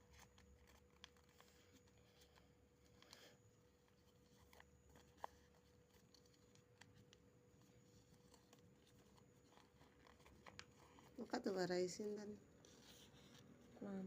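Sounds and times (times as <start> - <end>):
faint steady hum: 0.0 - 14.0
paper being folded: 0.0 - 14.0.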